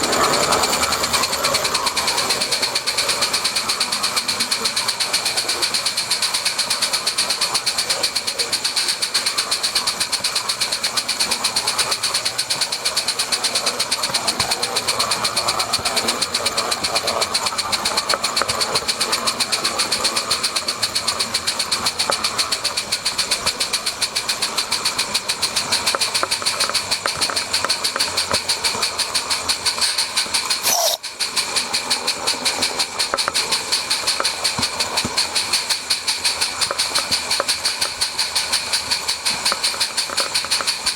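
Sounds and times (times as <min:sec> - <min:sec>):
steam hiss: 0:00.0 - 0:40.9
steam locomotive exhaust beats: 0:00.0 - 0:40.9.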